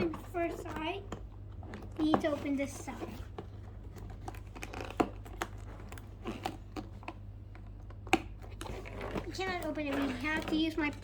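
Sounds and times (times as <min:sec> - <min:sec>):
cardboard and tape crinkling and tearing: 0:00.0 - 0:11.0.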